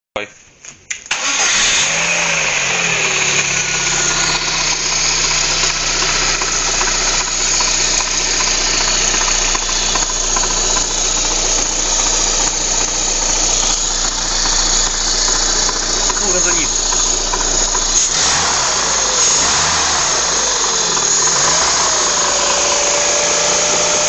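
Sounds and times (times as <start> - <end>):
car engine idling: 1.1 - 24.0
engine knock: 1.4 - 24.0.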